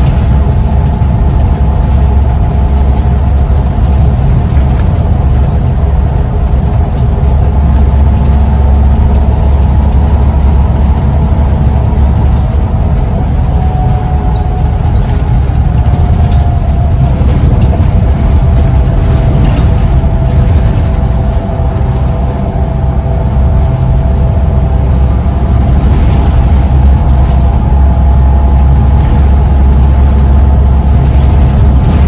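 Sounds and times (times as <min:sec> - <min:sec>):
bus engine droning with whine: 0:00.0 - 0:32.0.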